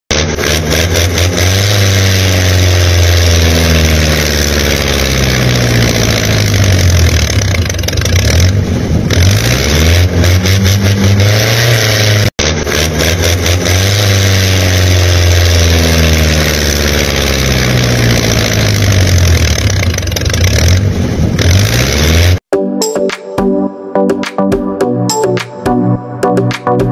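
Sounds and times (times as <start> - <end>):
tractor engine revving: 0.1 - 22.5.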